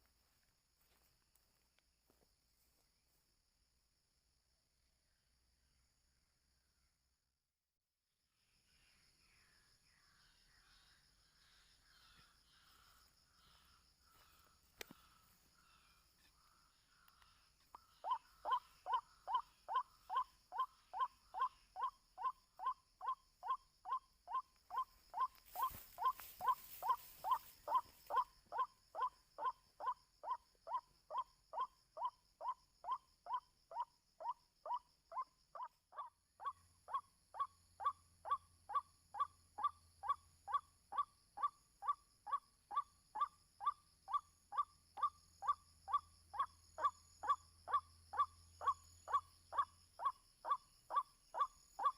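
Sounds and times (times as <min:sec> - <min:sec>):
bird calling kwak notes: 0:09.9 - 0:51.9.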